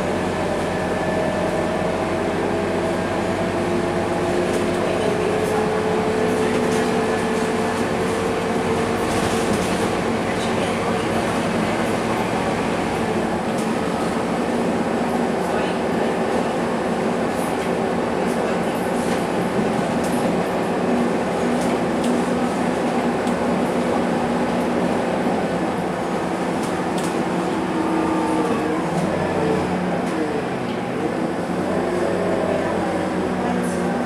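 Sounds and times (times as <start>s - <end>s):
bus diesel engine drone: 0.0s - 34.0s
bus interior rattles: 0.0s - 34.0s.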